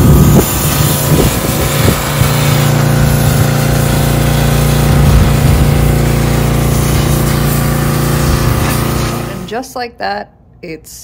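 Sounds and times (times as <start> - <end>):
high-pressure water spray hiss: 0.0 - 9.5
pressure washer engine humming: 0.0 - 9.7.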